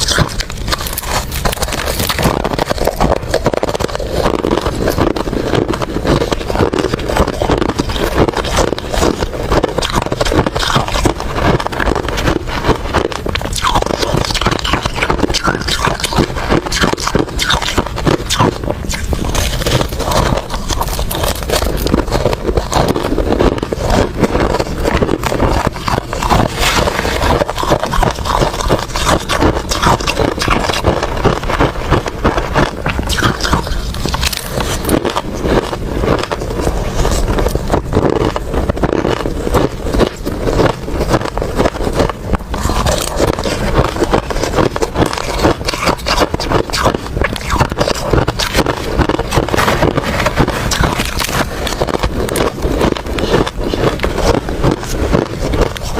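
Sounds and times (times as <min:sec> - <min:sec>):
chewing and crunching ice: 0:00.0 - 0:55.9.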